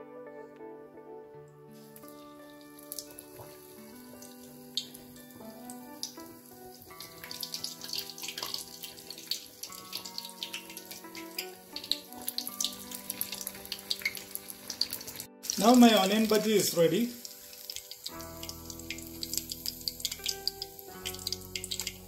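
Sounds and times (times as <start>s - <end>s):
soft background music: 0.0s - 22.0s
hot oil sizzling and crackling: 1.8s - 22.0s.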